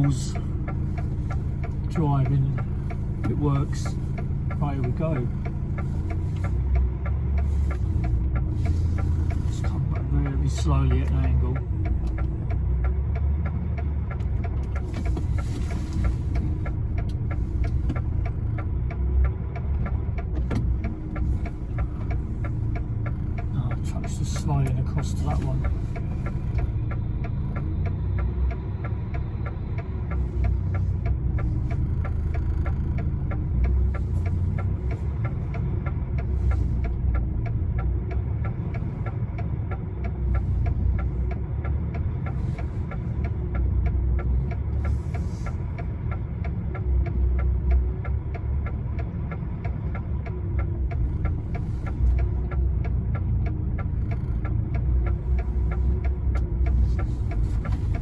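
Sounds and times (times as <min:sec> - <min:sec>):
diesel engine low throb: 0:00.0 - 0:58.0
fast regular ticking: 0:00.0 - 0:58.0.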